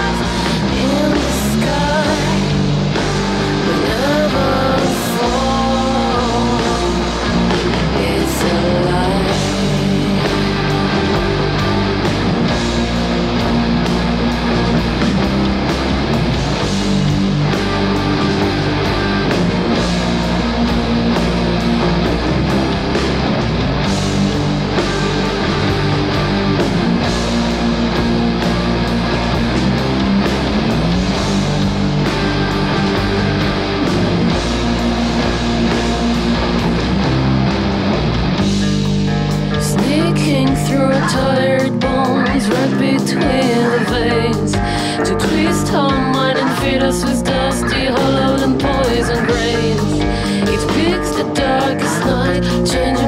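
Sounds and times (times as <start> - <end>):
distorted rock guitars: 0.0 - 53.0
steady drum beat: 0.0 - 53.0.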